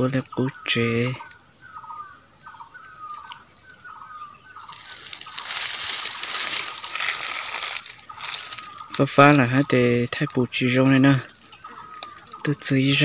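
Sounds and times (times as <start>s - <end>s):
bird calling: 0.0s - 13.0s
dry leaves rustling underfoot: 1.9s - 13.0s.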